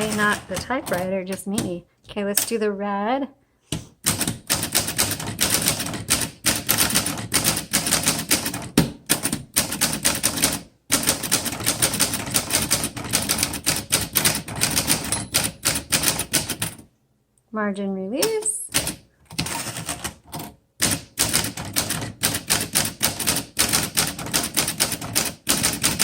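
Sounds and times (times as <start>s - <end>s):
manual typewriter typing: 0.0s - 2.7s, 4.0s - 16.9s, 18.2s - 26.0s.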